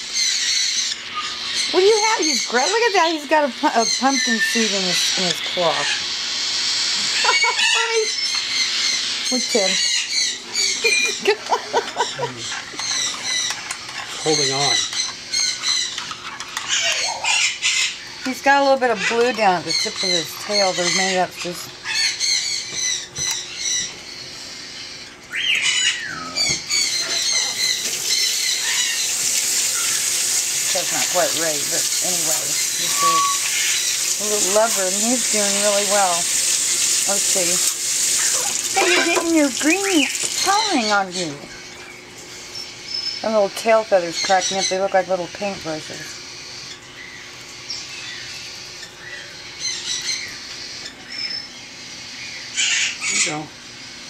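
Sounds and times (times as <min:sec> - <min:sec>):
parrot chicks squawking: 0:00.0 - 0:54.0.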